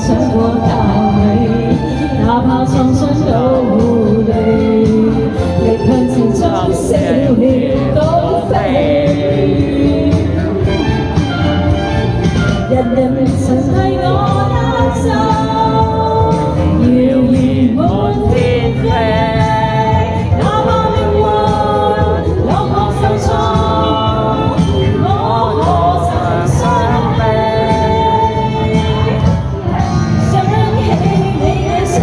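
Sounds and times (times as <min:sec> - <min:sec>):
pop song with singing: 0:00.0 - 0:32.0.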